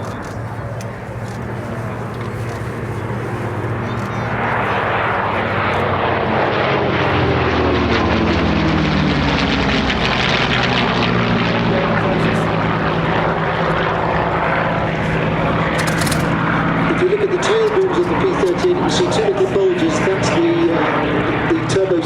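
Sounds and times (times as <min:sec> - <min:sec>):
propeller aircraft engines flying past: 0:00.0 - 0:22.0.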